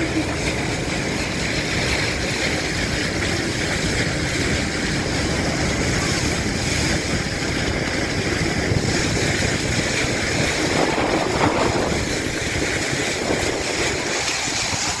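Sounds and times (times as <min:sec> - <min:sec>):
boat engine humming: 0:00.0 - 0:15.0
rushing water: 0:00.0 - 0:15.0
wind buffeting microphone: 0:00.0 - 0:15.0.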